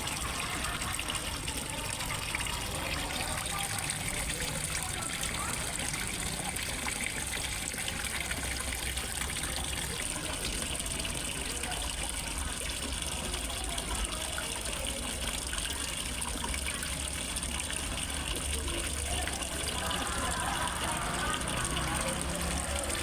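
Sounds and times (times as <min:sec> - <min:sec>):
water trickling into pond: 0:00.0 - 0:23.0.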